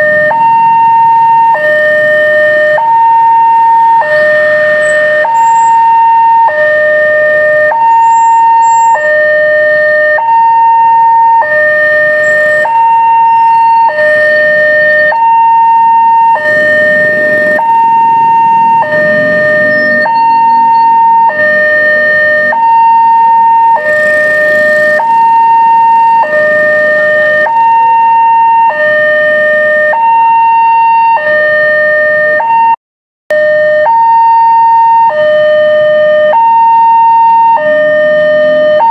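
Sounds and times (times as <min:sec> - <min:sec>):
two-tone warning siren: 0:00.0 - 0:38.9.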